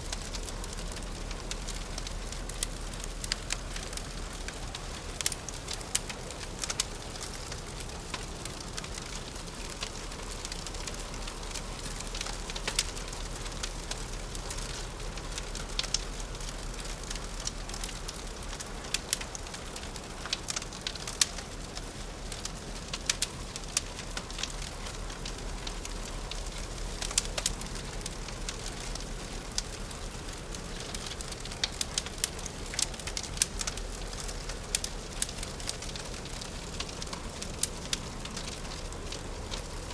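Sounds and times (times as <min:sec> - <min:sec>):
fireplace crackling and popping: 0:00.0 - 0:39.9.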